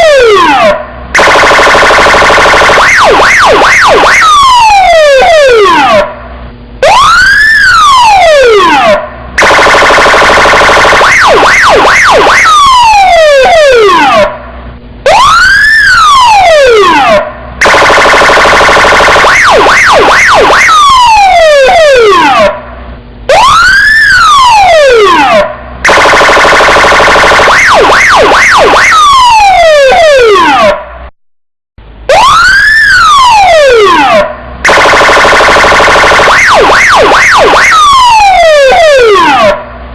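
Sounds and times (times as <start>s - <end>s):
electronic police siren: 0.0s - 31.0s, 31.9s - 39.8s.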